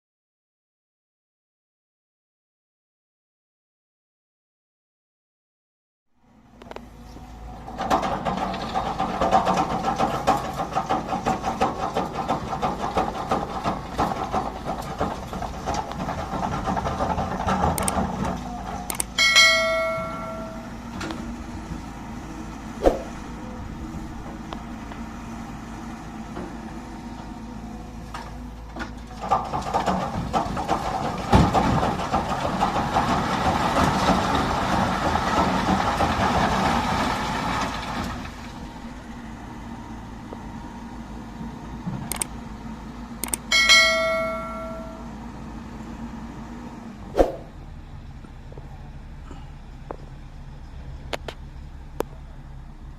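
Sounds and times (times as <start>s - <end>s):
heavy diesel machinery running: 6.2s - 52.9s.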